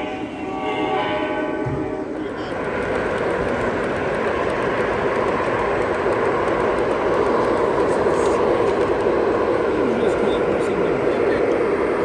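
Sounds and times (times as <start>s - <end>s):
model train rumble: 0.0s - 12.0s.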